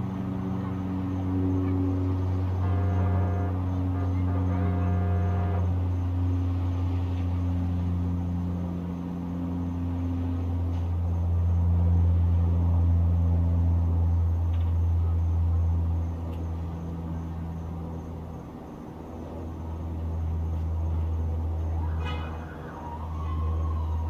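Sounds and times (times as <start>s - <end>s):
distant vehicle engine rumble: 0.0s - 24.0s
faint crickets chirping: 0.0s - 24.0s.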